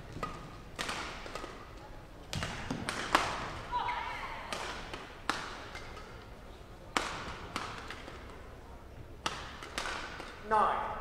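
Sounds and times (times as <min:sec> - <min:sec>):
racket hitting shuttlecock: 0:00.1 - 0:06.3, 0:06.9 - 0:08.5, 0:09.1 - 0:10.4.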